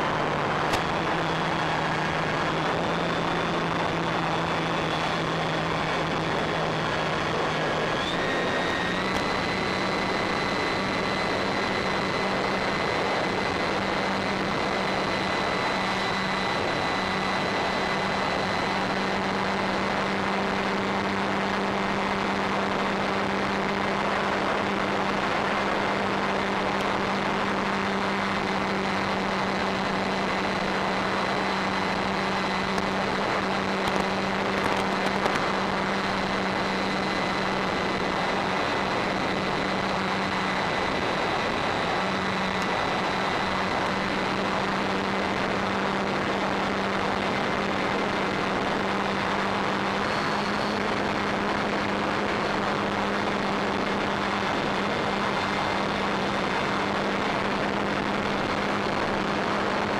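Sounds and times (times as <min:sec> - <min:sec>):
electric motor and propeller: 0:00.0 - 0:59.9
faint high whine: 0:00.0 - 0:59.9.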